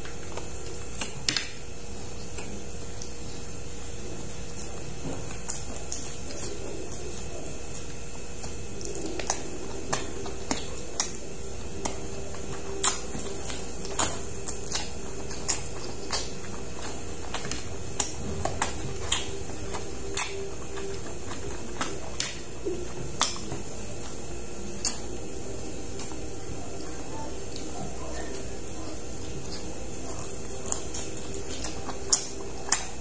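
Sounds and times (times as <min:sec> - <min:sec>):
background hum: 0:00.0 - 0:33.0
person chewing wet clicks: 0:00.0 - 0:33.0.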